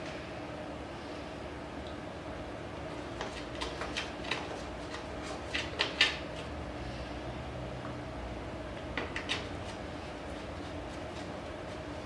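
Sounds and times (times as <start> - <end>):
low room hum with hiss: 0.0 - 12.0.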